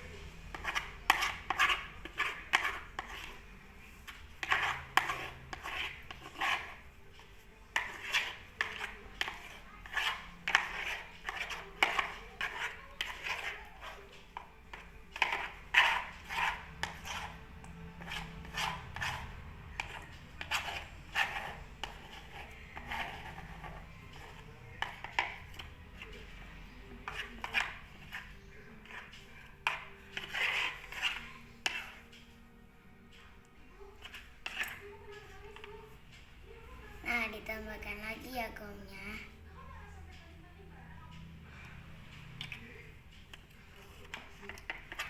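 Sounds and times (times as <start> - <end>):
utensil stirring slime in bowl: 0.0 - 32.6, 33.2 - 36.1, 42.2 - 45.0.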